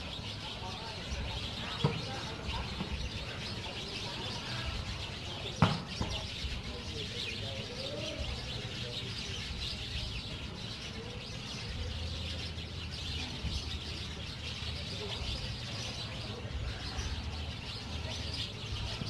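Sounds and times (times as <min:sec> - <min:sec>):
birds chirping: 0:00.0 - 0:19.0
faint voices: 0:00.0 - 0:19.0.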